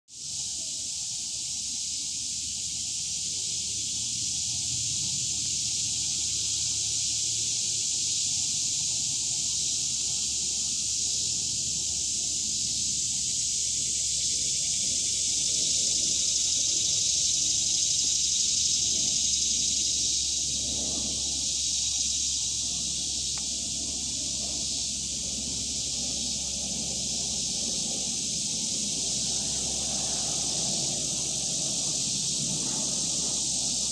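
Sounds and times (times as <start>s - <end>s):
high-pitched hiss: 0.1s - 33.9s.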